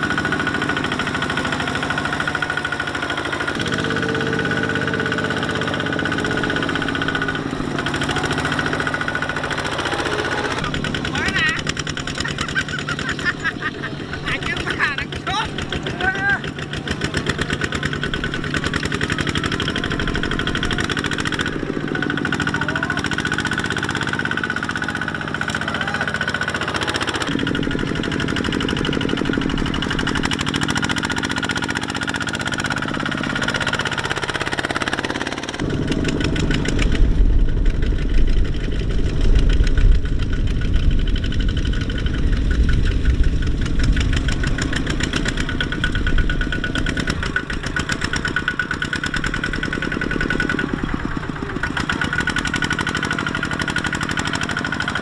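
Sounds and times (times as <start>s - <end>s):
diesel tractor engines chugging: 0.0s - 55.0s.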